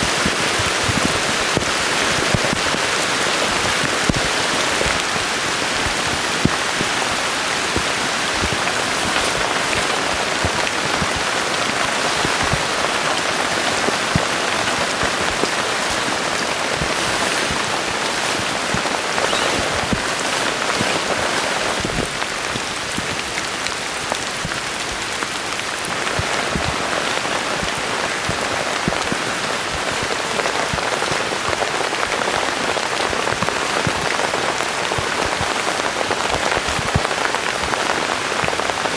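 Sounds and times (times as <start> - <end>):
heavy rain falling: 0.0 - 38.9
raindrops striking close by: 0.0 - 38.9.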